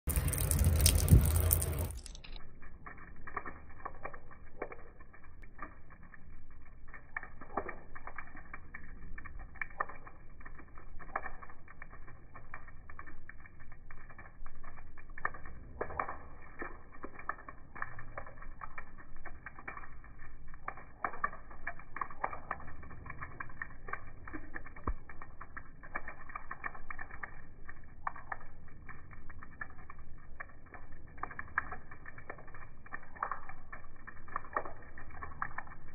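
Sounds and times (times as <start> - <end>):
water drops splashing on concrete: 0.0 - 35.9.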